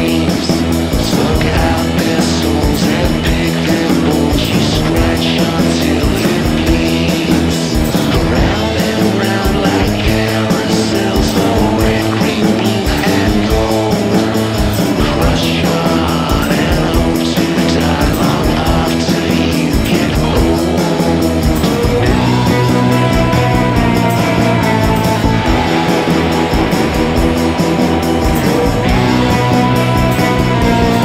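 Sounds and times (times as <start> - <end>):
fast drum beat: 0.0 - 31.0
rock song: 0.0 - 31.0.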